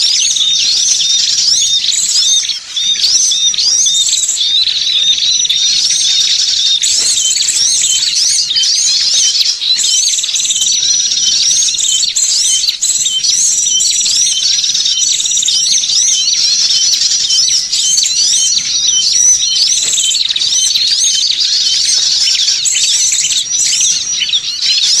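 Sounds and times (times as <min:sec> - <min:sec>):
small songbirds chirping: 0:00.0 - 0:25.0.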